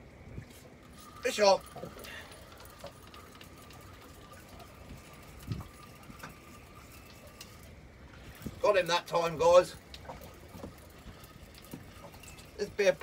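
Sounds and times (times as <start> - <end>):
fishing reel whirring: 0.8 - 13.0.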